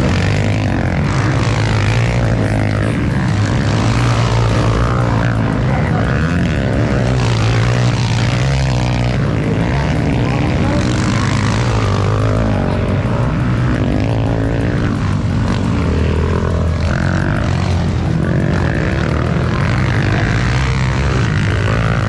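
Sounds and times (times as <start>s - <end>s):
dirt bike engines racing: 0.0s - 22.0s.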